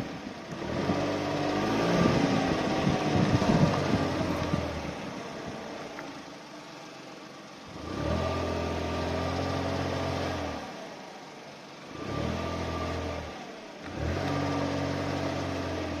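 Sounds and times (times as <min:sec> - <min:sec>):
car driving slowly: 0:00.0 - 0:16.0.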